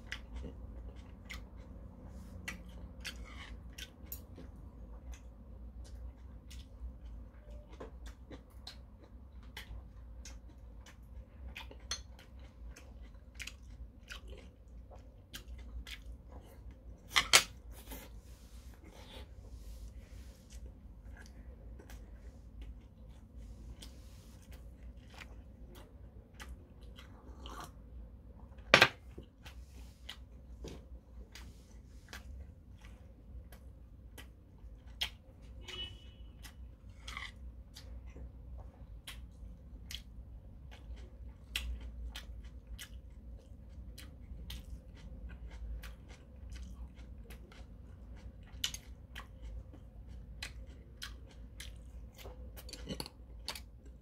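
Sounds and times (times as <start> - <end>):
man chewing with mouth clicks: 0.0 - 18.1, 20.4 - 54.0.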